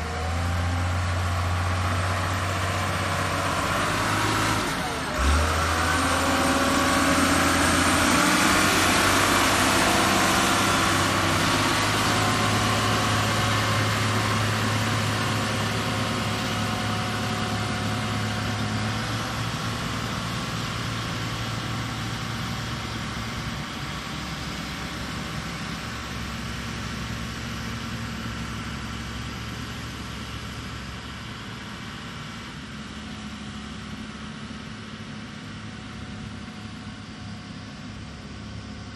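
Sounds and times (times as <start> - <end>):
construction machine engine humming: 0.0 - 38.9.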